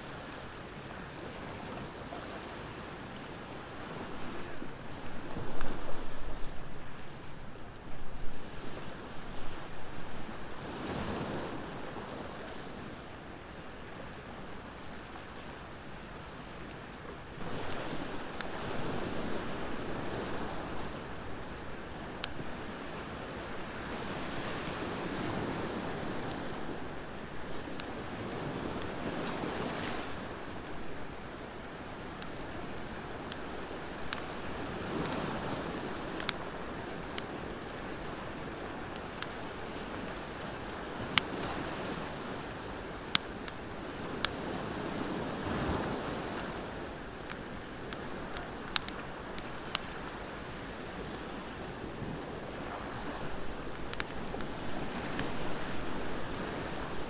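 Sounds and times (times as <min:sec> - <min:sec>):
bonfire pops and crackles: 0:03.2 - 0:57.0.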